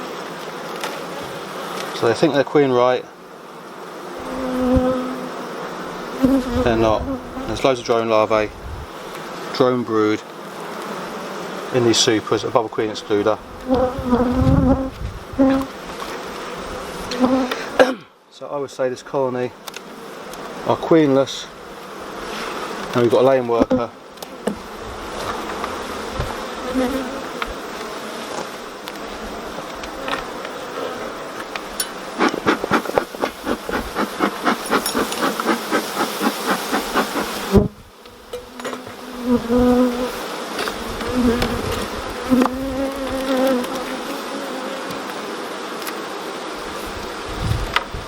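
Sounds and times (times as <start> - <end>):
honeybees buzzing: 0.0 - 17.9, 19.2 - 48.0.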